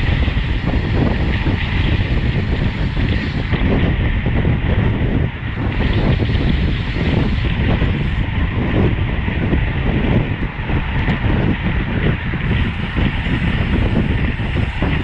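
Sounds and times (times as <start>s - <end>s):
road and tyre noise: 0.0s - 15.0s
wind on microphone: 0.0s - 15.0s.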